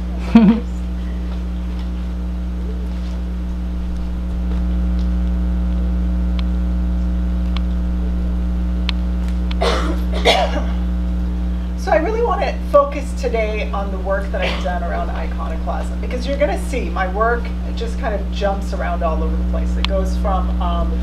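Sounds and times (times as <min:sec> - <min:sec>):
low electrical mains hum: 0:00.0 - 0:21.0.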